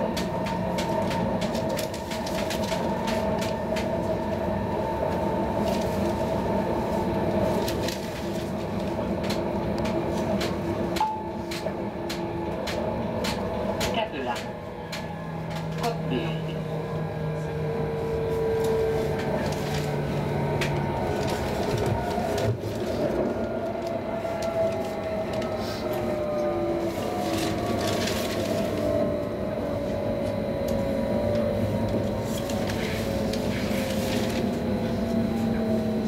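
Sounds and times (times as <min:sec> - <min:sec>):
wheels rumbling on rails: 0:00.0 - 0:36.0.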